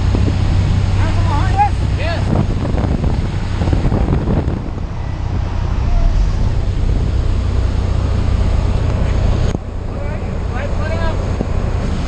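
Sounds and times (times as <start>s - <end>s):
heavy wind on microphone: 0.0s - 12.0s.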